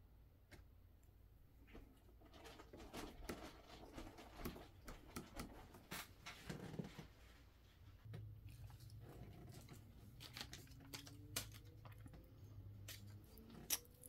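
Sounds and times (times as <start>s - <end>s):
small items handled on a desk: 1.6s - 14.0s.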